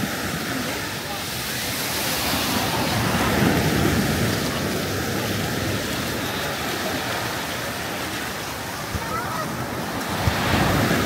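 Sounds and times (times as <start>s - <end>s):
sea surf washing onto sand: 0.0s - 11.0s.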